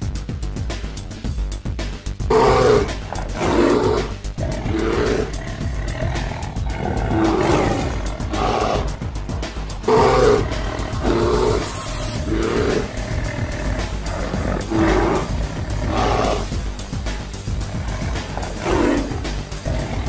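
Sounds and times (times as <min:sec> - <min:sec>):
background music: 0:00.0 - 0:20.0
animal roars and growls: 0:02.3 - 0:20.0.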